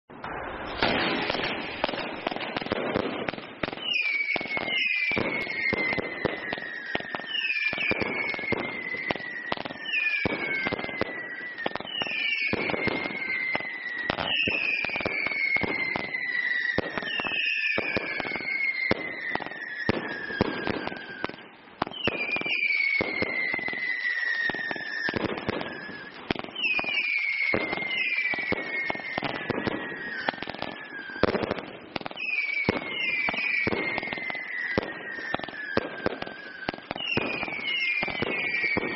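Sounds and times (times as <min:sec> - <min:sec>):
falling firework whistles: 0:00.1 - 0:38.9
firework bangs: 0:00.1 - 0:38.9
firework crackling: 0:00.1 - 0:38.9.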